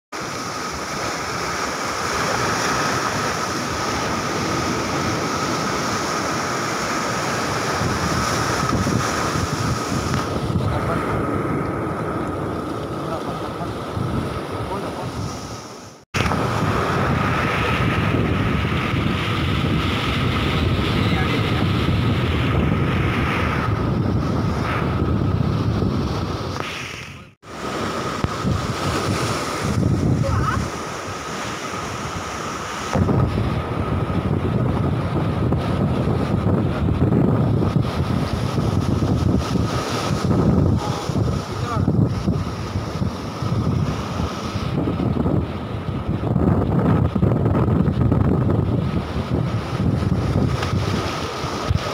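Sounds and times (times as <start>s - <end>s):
sea surf against rocks: 0.1s - 51.9s
wind buffeting microphone: 2.1s - 51.9s.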